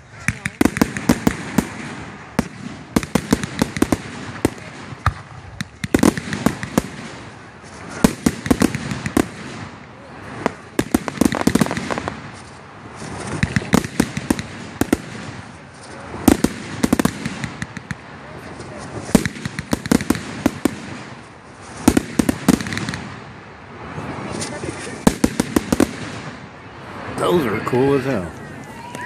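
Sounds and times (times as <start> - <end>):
fireworks bangs and crackling pops: 0.0 - 26.7
background hiss: 0.0 - 29.0.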